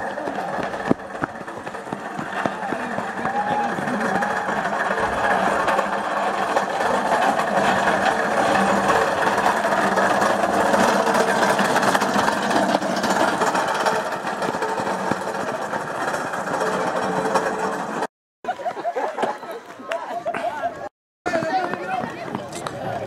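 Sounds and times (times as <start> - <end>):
go-kart wheels rattling on gravel: 0.0 - 18.1, 21.3 - 23.0.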